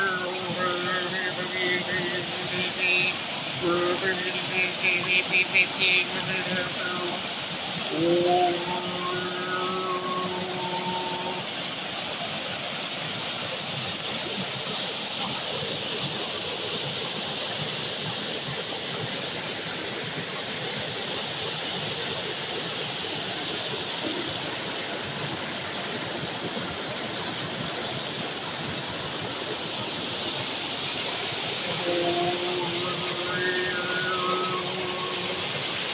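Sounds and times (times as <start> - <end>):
creek water rushing over rocks: 0.0 - 35.9.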